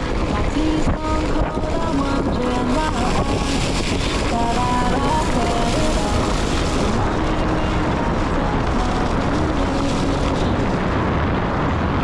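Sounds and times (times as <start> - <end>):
faint held music notes: 0.0 - 11.5
tyre on wet road: 0.0 - 12.0
wind on microphone: 0.0 - 12.0.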